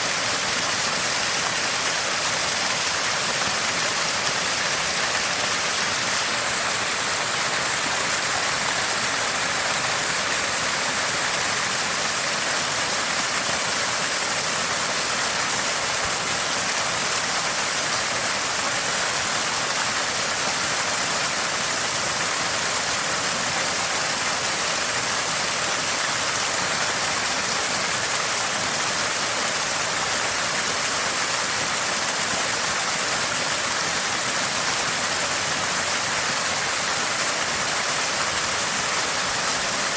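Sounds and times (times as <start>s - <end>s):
water gushing from a spring: 0.0s - 39.9s.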